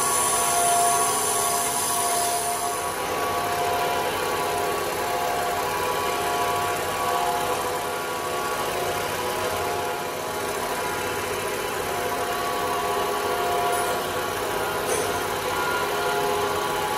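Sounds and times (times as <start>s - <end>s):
grinding machine humming: 0.0s - 16.9s.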